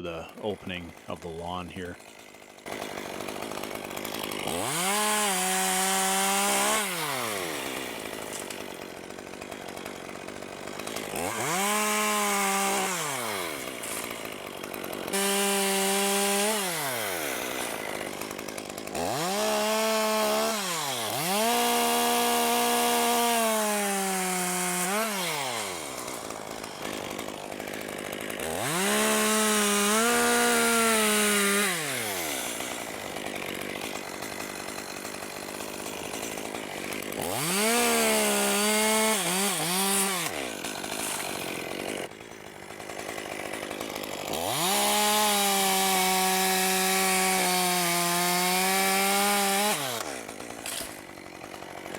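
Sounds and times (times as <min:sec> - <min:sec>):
chainsaw revving and idling: 0:00.0 - 0:51.9.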